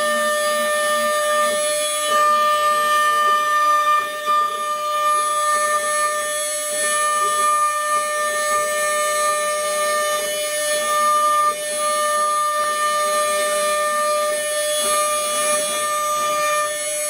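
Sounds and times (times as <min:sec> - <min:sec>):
bit cutting wood: 0:00.0 - 0:17.0
router spindle high whine: 0:00.0 - 0:17.0.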